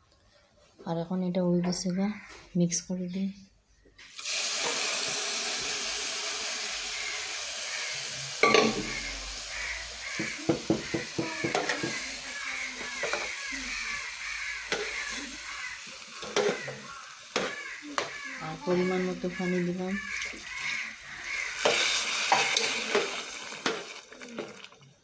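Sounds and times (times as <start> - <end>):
rice sizzling in hot oil: 4.0 - 25.0.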